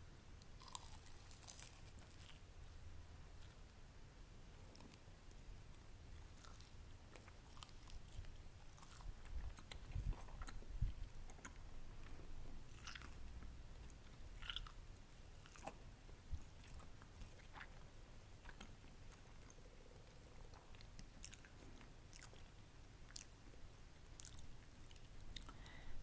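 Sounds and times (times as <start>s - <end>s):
close-miked crunchy chewing: 0.4s - 2.6s, 3.2s - 3.8s, 4.4s - 25.9s.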